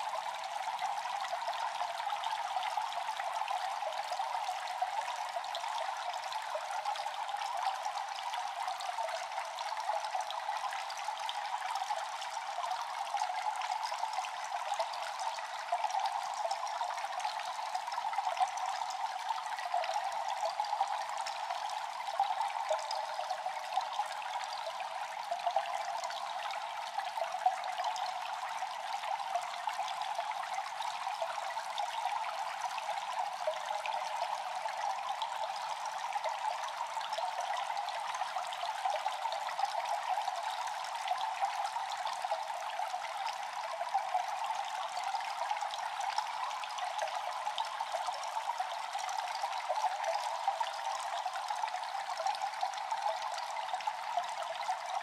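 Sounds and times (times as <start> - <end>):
water trickling into pool: 0.0 - 55.0.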